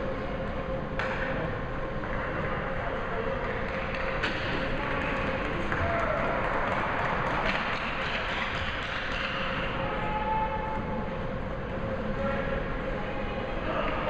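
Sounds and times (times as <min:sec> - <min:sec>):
ice rink crowd din: 0:00.0 - 0:14.0.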